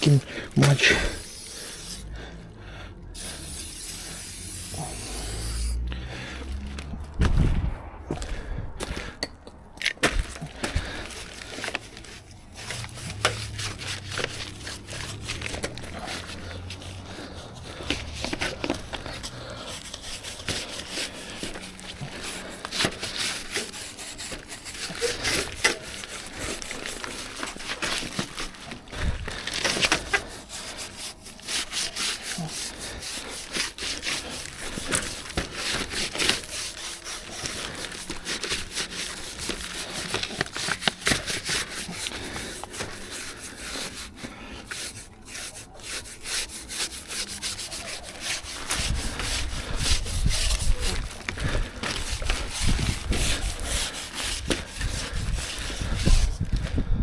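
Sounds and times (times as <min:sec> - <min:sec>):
rubbing strokes on wood: 0:00.0 - 0:02.3, 0:03.1 - 0:05.9, 0:10.3 - 0:56.6
knocks and scrapes: 0:06.5 - 0:56.8.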